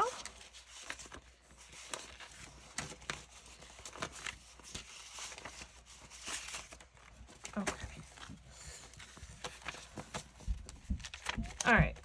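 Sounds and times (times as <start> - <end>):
banknotes rustling: 0.0 - 12.0.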